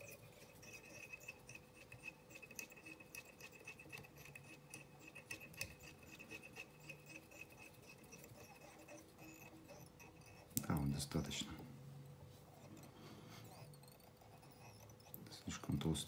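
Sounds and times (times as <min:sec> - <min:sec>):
yarn scratching on hook: 0:00.0 - 0:11.4, 0:12.3 - 0:16.0.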